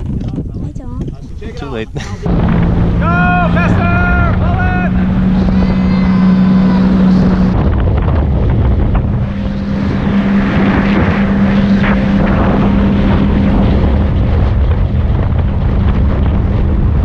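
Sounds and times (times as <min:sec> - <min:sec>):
wind buffeting microphone: 0:00.0 - 0:17.0
jet ski engine droning: 0:01.6 - 0:17.0.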